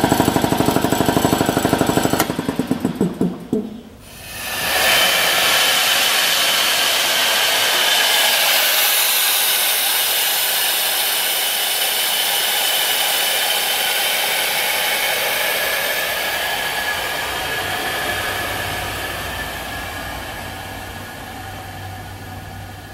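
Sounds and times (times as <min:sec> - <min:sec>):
compressed air hissing from valve: 0:03.9 - 0:22.7.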